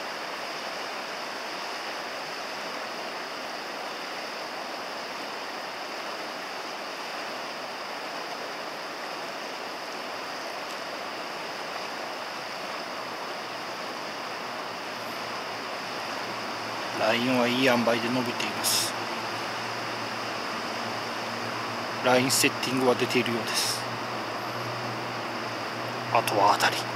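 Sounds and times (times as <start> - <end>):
river water rushing over riffle: 0.0 - 26.9.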